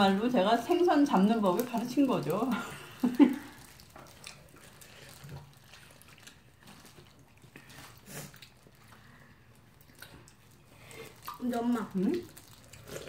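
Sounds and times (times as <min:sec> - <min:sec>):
people chewing: 0:00.0 - 0:13.0.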